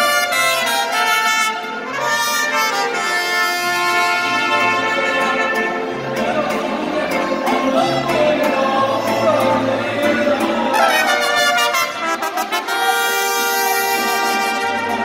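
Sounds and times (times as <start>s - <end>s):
mariachi band playing: 0.0s - 15.0s.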